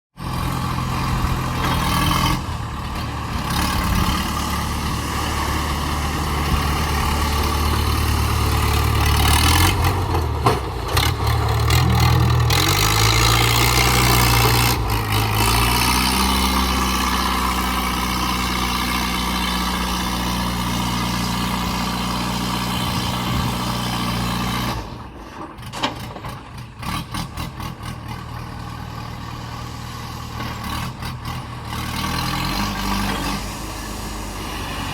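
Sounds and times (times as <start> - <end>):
diesel engine revving: 0.2 - 34.9.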